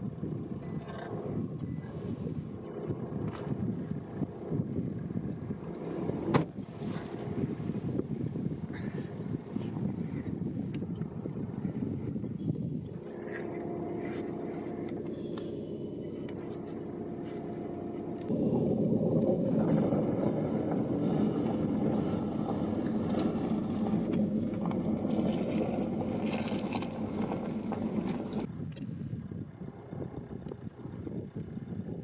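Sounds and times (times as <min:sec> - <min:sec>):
vehicle engine running: 0:00.0 - 0:28.6.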